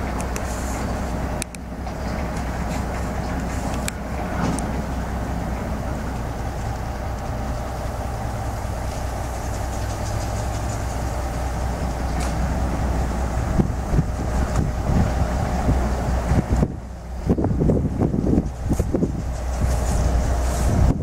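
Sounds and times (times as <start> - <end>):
crane diesel engine running: 0.0 - 21.0
wind buffeting microphone: 0.0 - 21.0.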